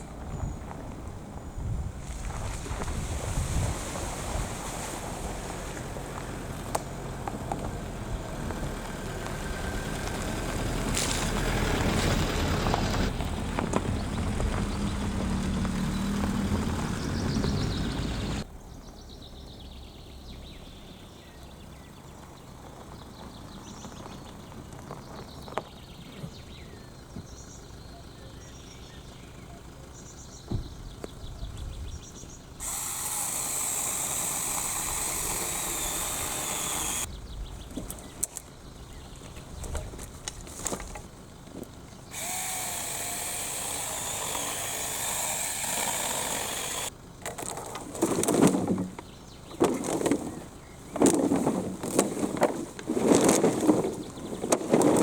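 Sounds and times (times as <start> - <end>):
outdoor ambience: 0.0 - 55.0
vehicle engine and road noise: 0.0 - 55.0.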